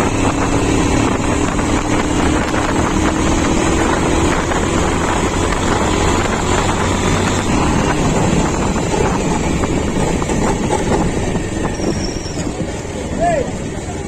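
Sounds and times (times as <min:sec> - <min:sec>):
backhoe diesel engine running: 0:00.0 - 0:14.0
wind buffeting microphone: 0:00.0 - 0:14.0.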